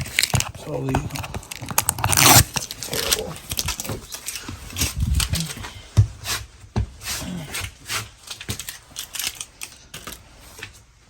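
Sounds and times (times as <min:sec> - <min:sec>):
packaging rustling and crinkling: 0:00.0 - 0:06.6, 0:07.3 - 0:11.0.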